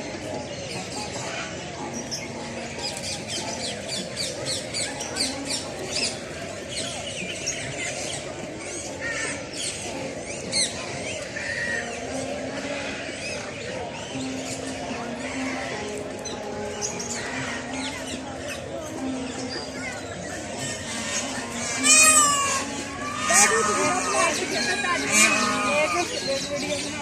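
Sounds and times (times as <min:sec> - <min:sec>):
background murmur: 0:00.0 - 0:27.0
caged birds chirping and squawking: 0:00.0 - 0:27.0.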